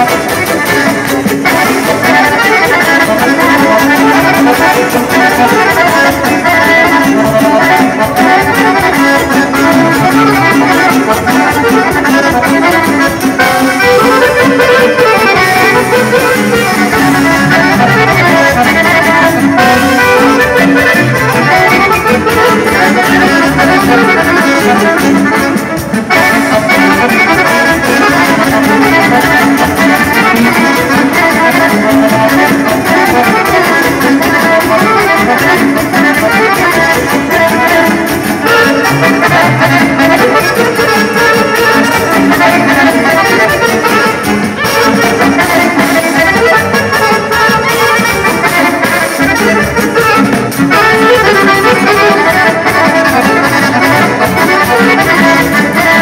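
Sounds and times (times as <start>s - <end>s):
accordions playing a tune: 0.0s - 56.0s
band instruments: 0.0s - 56.0s.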